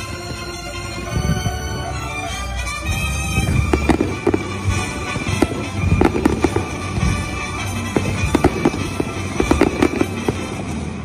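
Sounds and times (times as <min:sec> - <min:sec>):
fireworks popping and crackling: 0:00.0 - 0:11.0
music playing: 0:00.0 - 0:11.0.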